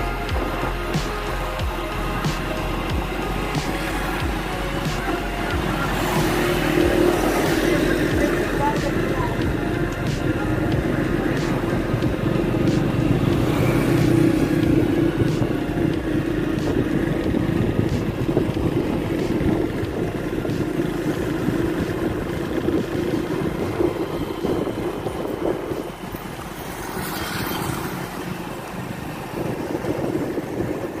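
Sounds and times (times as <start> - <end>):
motorcycle engine running: 0.0 - 31.0
road and air noise: 0.0 - 31.0.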